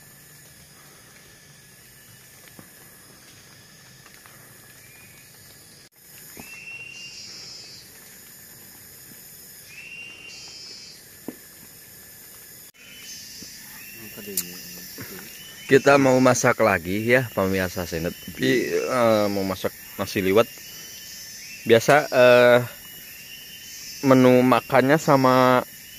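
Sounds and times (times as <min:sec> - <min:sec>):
high-pitched insect drone: 0:00.0 - 0:25.9
loud insect buzz: 0:00.0 - 0:25.9.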